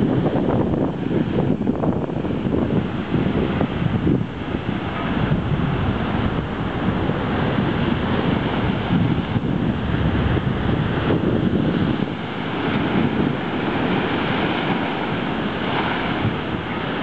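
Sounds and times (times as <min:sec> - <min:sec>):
sea surf breaking on shore: 0:00.0 - 0:17.0
wind rumbling on microphone: 0:00.0 - 0:17.0.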